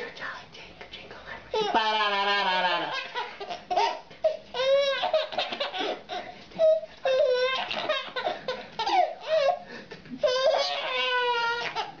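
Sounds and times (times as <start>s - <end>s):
baby laughing and squealing: 1.6s - 9.6s, 10.2s - 12.0s.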